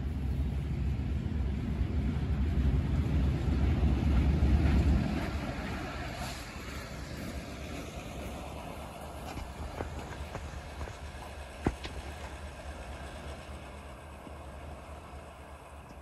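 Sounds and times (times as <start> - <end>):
diesel locomotive rumbling past: 0.0 - 16.0.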